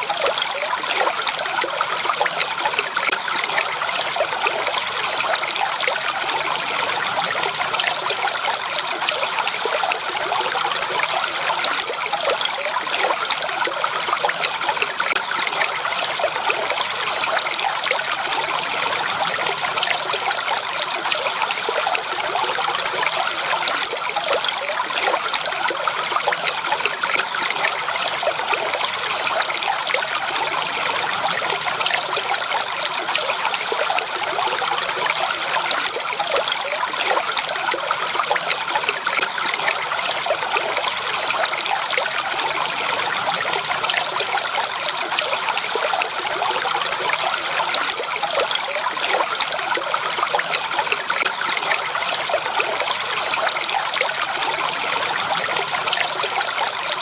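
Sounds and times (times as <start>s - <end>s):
stream water trickling over stones: 0.0s - 57.0s.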